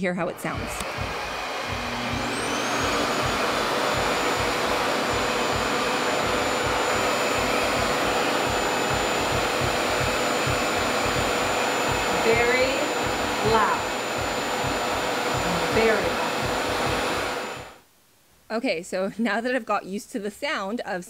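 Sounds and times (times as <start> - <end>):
hair dryer running with whine: 0.0 - 17.8.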